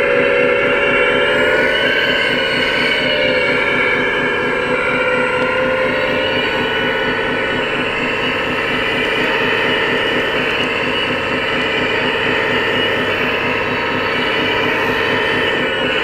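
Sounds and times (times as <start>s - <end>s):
toy machinery mechanical drone: 0.0s - 16.0s.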